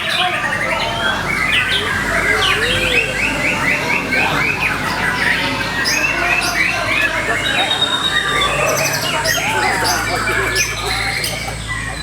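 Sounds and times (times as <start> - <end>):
songbird whistling song: 0.0 - 12.0.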